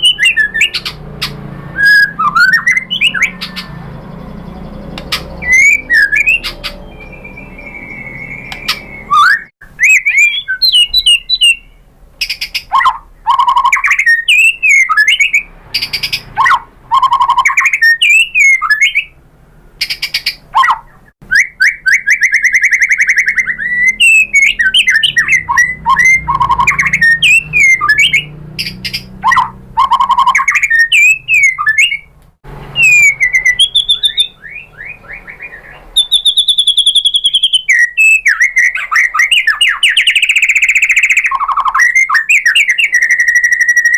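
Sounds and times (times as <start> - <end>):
bird singing: 0.0 - 19.2, 19.8 - 43.9.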